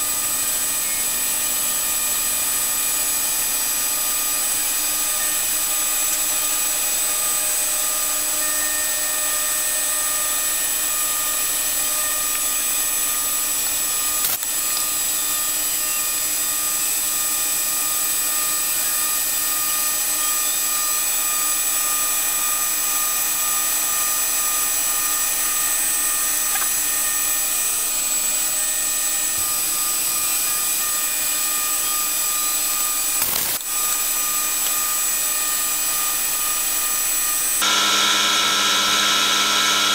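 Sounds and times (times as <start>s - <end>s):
milling machine hiss and whine: 0.0s - 39.9s.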